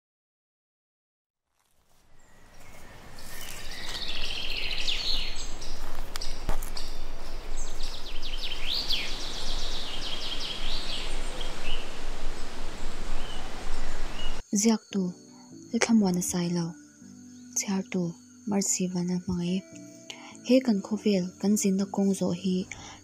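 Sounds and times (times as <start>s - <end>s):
outdoor background hiss: 1.6s - 23.0s
birds chirping: 2.2s - 23.0s.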